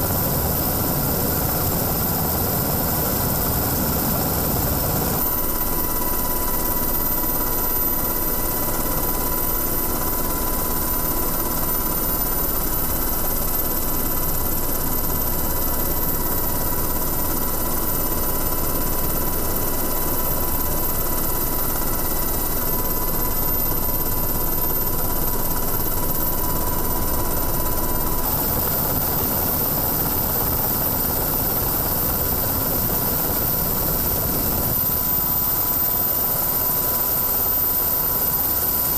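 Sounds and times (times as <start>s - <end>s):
aircraft engine and rotor drone: 0.0s - 38.9s
thin steady whine: 0.0s - 38.9s.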